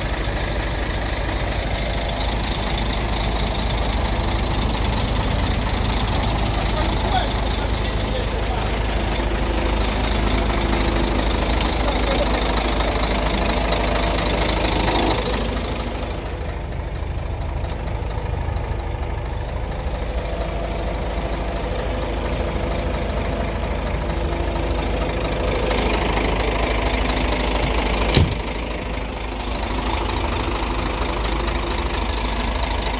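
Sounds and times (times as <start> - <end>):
diesel truck engine idling: 0.0 - 32.9.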